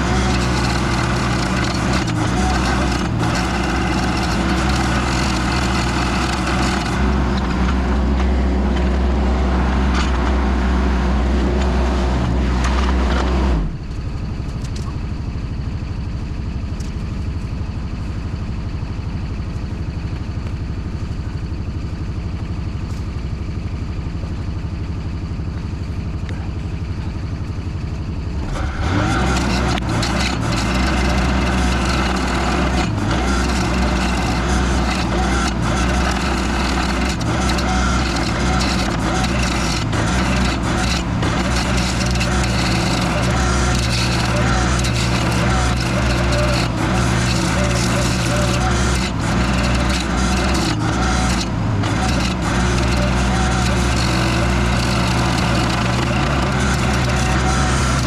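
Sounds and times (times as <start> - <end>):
skid steer engine running hard: 0.0 - 58.0.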